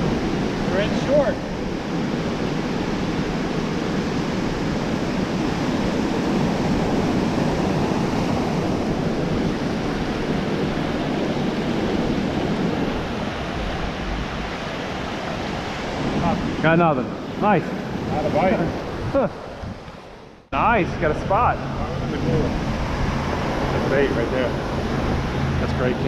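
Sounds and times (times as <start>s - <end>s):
ocean surf washing onto beach: 0.0s - 26.0s
wind buffeting microphone: 0.0s - 26.0s.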